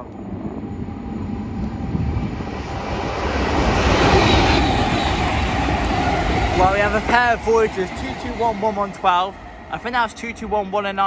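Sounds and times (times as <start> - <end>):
diesel trains passing at speed: 0.0 - 11.0.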